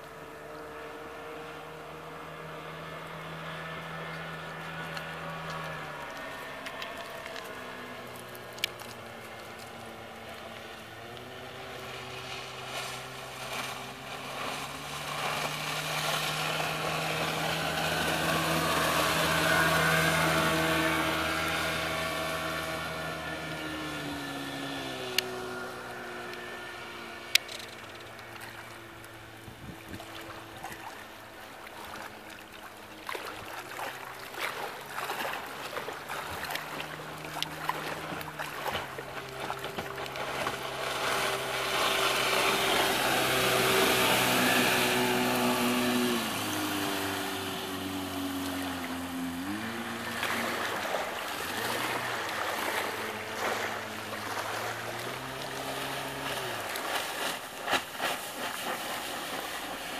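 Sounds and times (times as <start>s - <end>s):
outboard motor running: 0.0s - 59.9s
wake splashing: 0.0s - 59.9s.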